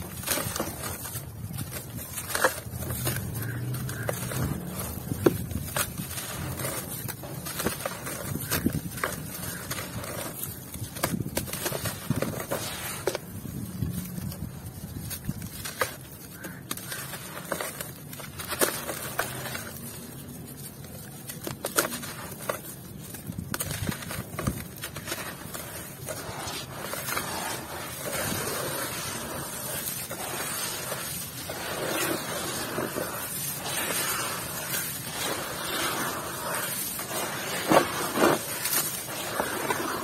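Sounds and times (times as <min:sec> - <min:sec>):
hands crumbling dirt: 0:00.0 - 0:40.0.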